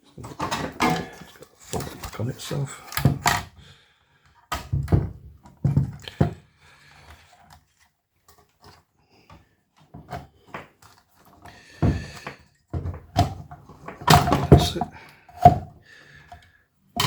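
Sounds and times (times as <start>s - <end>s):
knocks and clunks of handling: 0.0s - 17.0s.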